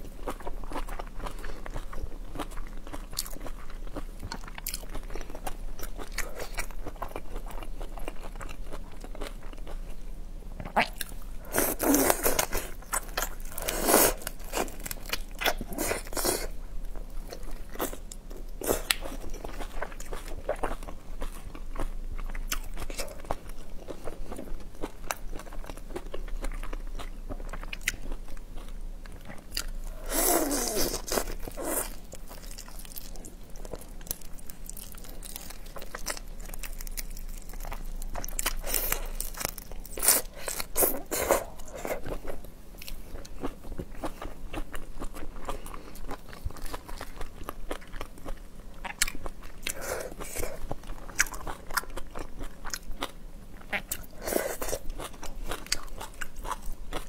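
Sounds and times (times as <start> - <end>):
chewing and crunching shrimp shells: 0.0 - 10.0, 10.6 - 57.0.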